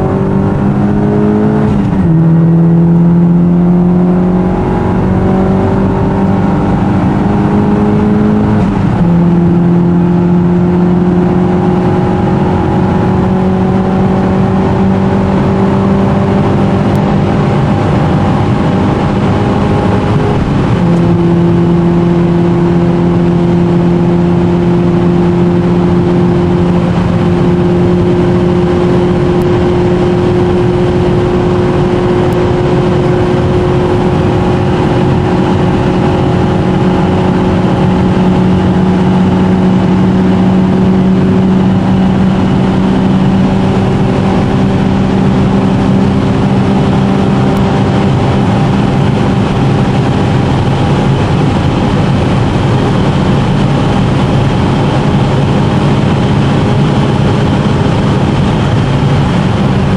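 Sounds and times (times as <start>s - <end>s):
car engine hum: 0.0s - 59.9s
road noise inside car: 0.0s - 59.9s.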